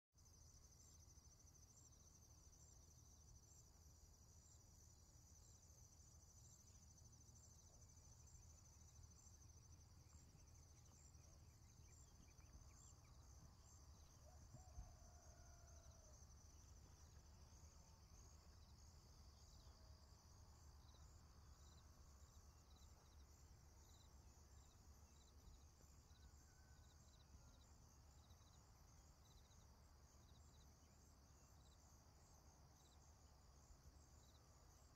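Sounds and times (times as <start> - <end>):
insects trilling: 0.3 - 34.9.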